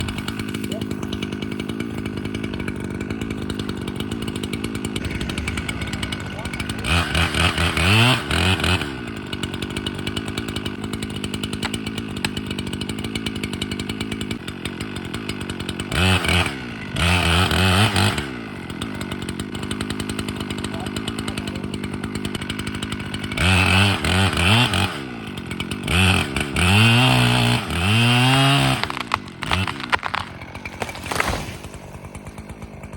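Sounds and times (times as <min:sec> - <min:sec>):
chainsaw engine idling and revving: 0:00.0 - 0:32.9.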